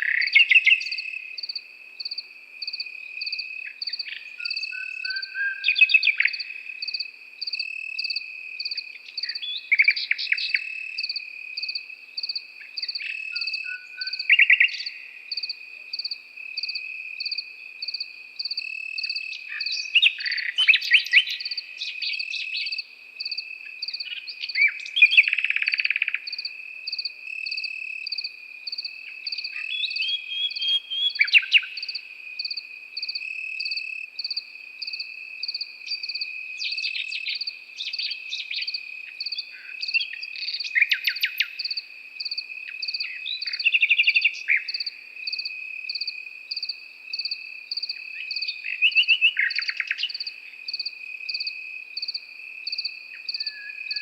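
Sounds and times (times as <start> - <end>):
crickets chirping: 0.0 - 54.0
crickets trilling: 0.0 - 54.0
nightingale singing: 0.0 - 54.0.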